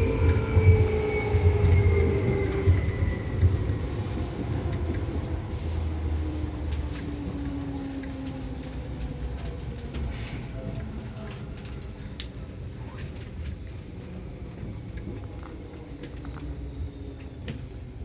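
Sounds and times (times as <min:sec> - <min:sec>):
train running rumble: 0:00.0 - 0:18.0.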